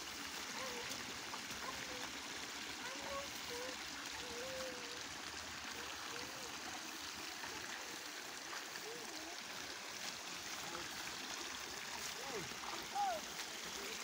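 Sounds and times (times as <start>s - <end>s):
water rushing through ditch: 0.0s - 14.0s.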